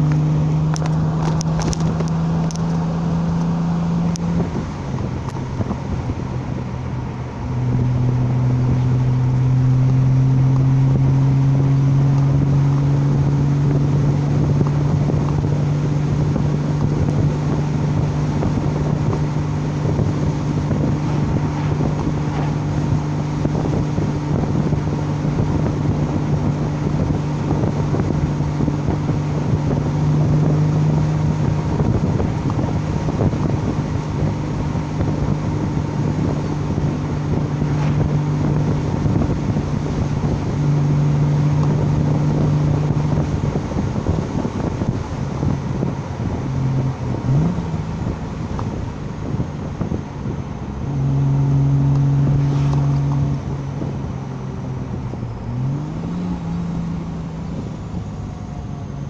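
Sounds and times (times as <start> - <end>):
car engine running: 0.0 - 59.0
wind noise on microphone: 0.0 - 59.0.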